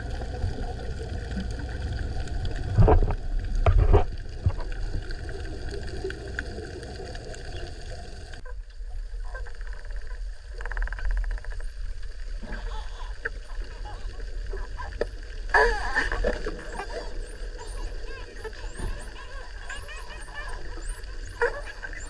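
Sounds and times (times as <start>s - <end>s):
dull water swishes: 0.0s - 22.0s
underwater ocean noise: 0.0s - 22.0s.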